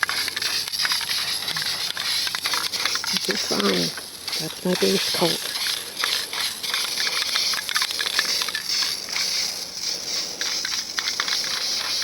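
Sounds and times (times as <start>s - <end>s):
spray can hissing: 0.0s - 12.0s.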